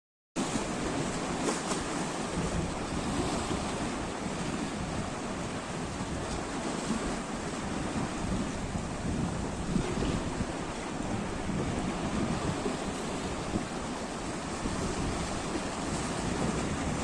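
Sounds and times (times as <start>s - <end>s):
sea waves washing: 0.4s - 17.0s
wind buffeting microphone: 0.4s - 17.0s.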